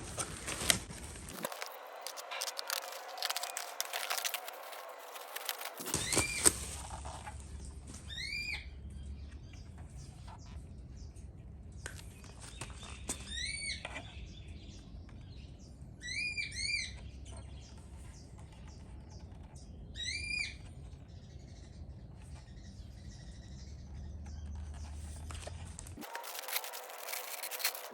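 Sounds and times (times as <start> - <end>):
bird chirping: 1.3 - 25.3.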